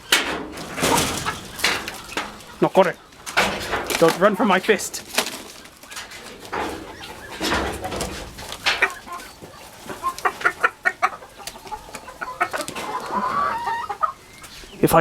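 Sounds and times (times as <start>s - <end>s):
chickens clucking and squawking: 0.0s - 15.0s.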